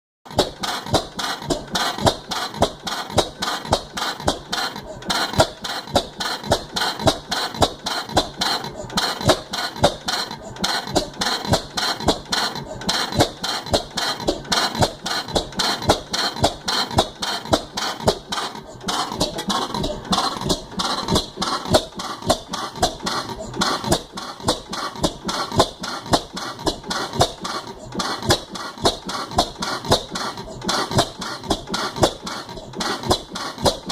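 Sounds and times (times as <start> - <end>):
gas engine running slowly: 0.3 - 33.9.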